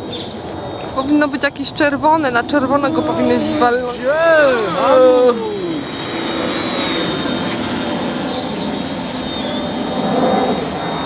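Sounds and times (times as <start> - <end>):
quadcopter whirring hum: 0.0 - 11.0.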